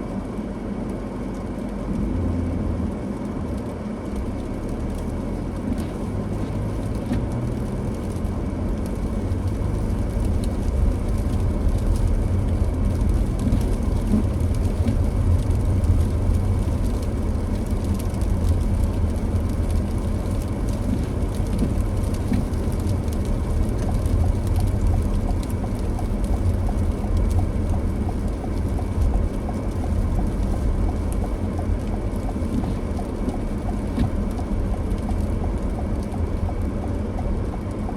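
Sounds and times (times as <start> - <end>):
car engine and road noise: 0.0 - 37.9.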